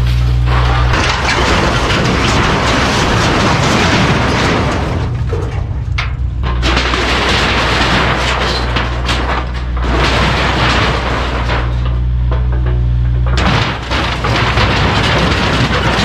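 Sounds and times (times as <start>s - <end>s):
debris crashing into dumpster: 0.0s - 16.0s
diesel engine running: 0.0s - 16.0s.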